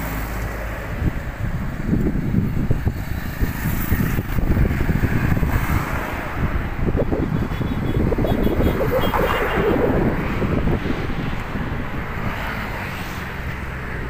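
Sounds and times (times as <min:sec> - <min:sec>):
road traffic passing: 0:00.0 - 0:14.0
wind buffeting microphone: 0:00.8 - 0:14.0.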